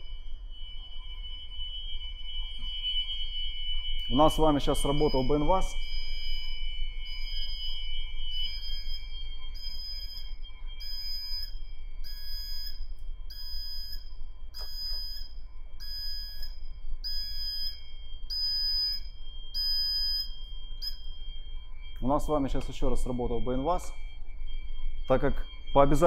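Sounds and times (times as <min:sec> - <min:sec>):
electronic alarm beeping: 0:00.0 - 0:26.0
steady high tone: 0:00.0 - 0:26.0.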